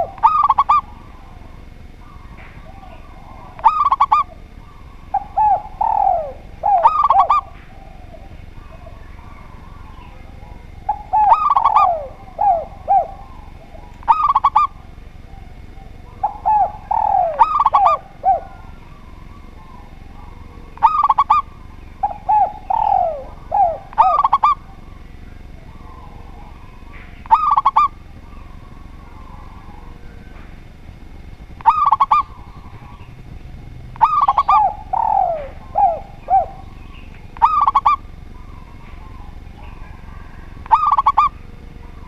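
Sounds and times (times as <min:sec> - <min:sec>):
doves cooing: 0:00.0 - 0:42.0.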